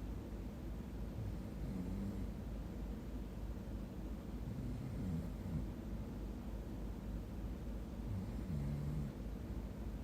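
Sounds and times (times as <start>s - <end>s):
faint low hum: 0.0s - 10.0s
room background rumble and hiss: 0.0s - 10.0s.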